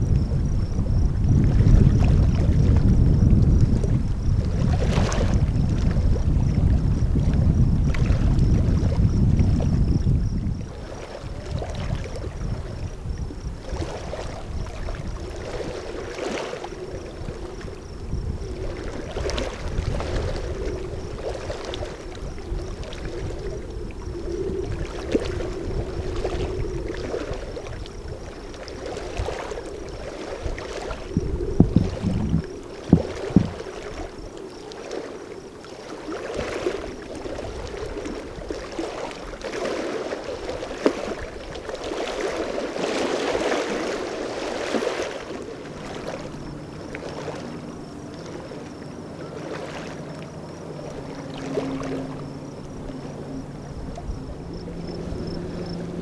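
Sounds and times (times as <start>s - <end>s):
soft water splashes: 0.0s - 56.0s
wind buffeting microphone: 0.0s - 56.0s.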